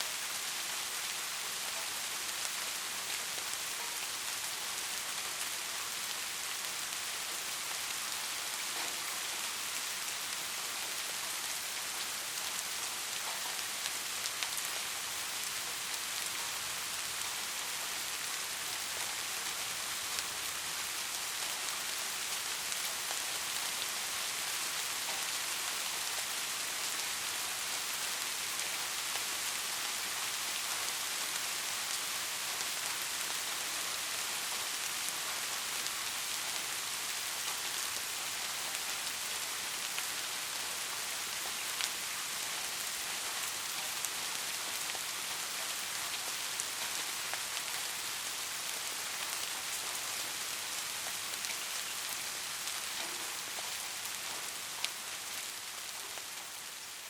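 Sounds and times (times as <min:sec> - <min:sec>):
rain falling: 0:00.0 - 0:57.0
raindrops pattering on a surface: 0:00.1 - 0:57.0.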